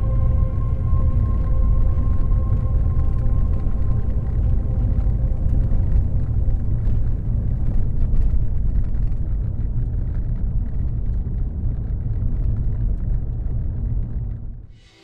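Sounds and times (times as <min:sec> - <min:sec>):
vehicle low rumble: 0:00.0 - 0:14.8.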